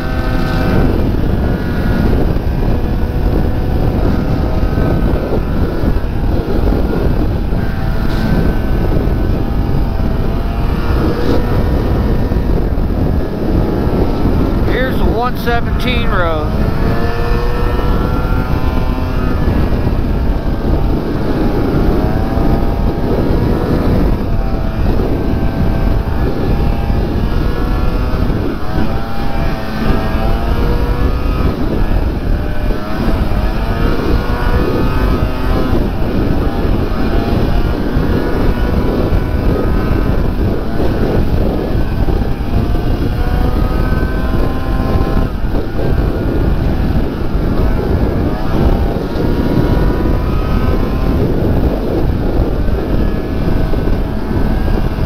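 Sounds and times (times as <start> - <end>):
snowmobile engine revving: 0.0 - 55.0
track noise: 0.0 - 55.0
wind rushing: 0.0 - 55.0.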